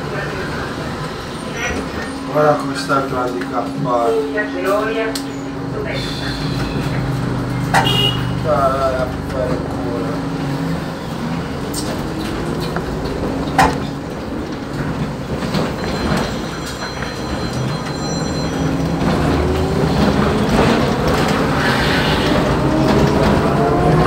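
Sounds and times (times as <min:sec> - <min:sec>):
body and road rumble and rattle: 0:00.0 - 0:24.0
trolleybus electric drive whine: 0:00.0 - 0:24.0.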